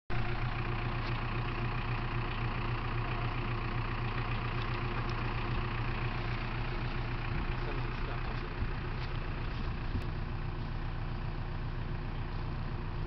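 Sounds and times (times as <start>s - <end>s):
tractor engine idling: 0.1s - 13.0s.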